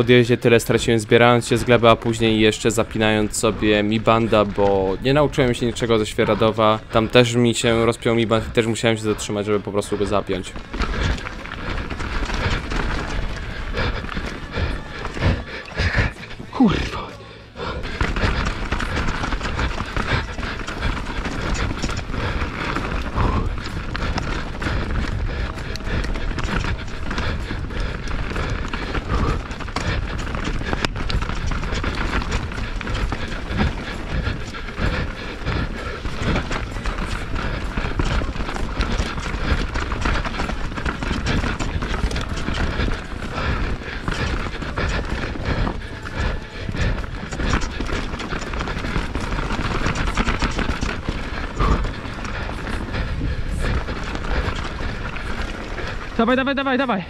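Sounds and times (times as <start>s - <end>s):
bike tyres rumbling over rocks: 0.6s - 56.5s
bike frame and chain rattling: 1.5s - 16.3s, 17.6s - 56.7s.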